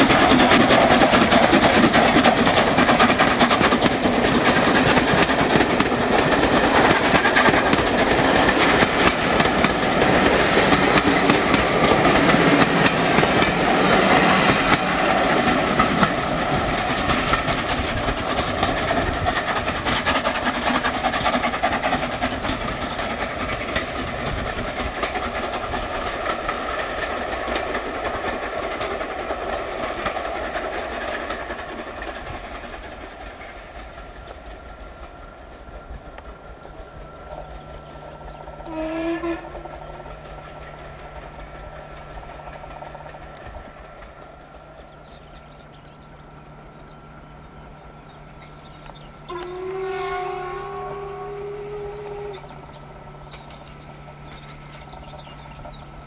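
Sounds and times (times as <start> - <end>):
train rolling past: 0.0 - 56.0
wheels clicking over rail joints: 0.0 - 56.0.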